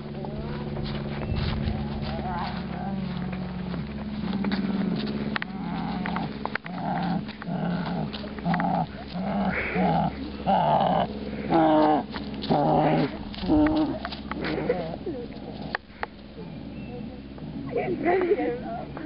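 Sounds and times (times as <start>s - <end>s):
dog growling: 1.8s - 19.0s.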